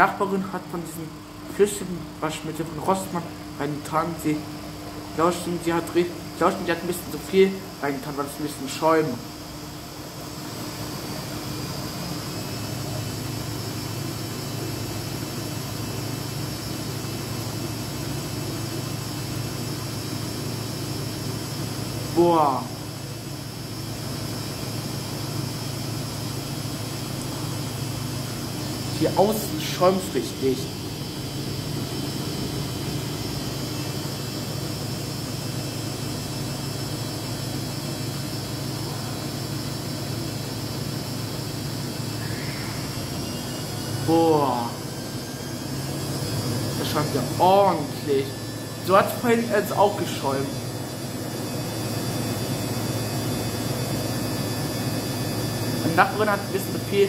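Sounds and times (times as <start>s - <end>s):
faint high whine: 0.0s - 57.0s
washing machine spinning: 0.0s - 57.0s.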